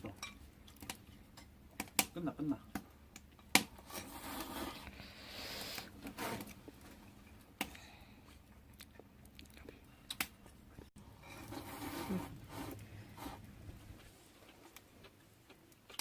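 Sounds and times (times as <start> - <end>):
people chewing and eating: 0.0 - 2.0, 2.6 - 16.0.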